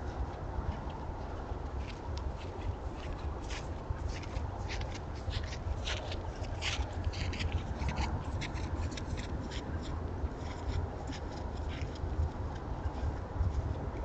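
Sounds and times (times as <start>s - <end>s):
steady low rumble: 0.0s - 14.0s
deer footsteps crunching in snow: 0.1s - 14.0s.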